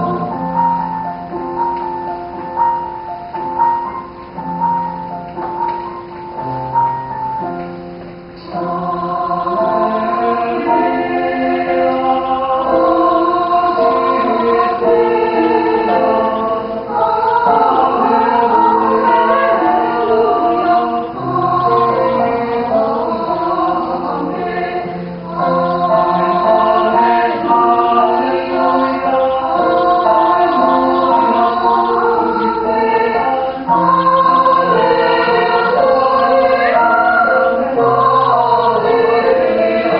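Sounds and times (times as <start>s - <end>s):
mixed choir singing a hymn: 0.0s - 3.1s, 8.4s - 39.9s.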